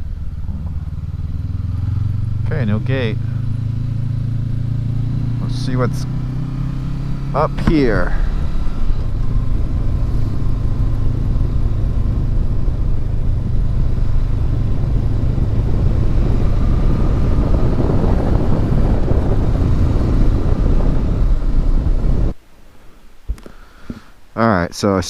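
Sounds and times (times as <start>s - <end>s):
motorcycle engine running: 0.0s - 22.4s
wind and road noise: 0.0s - 25.0s.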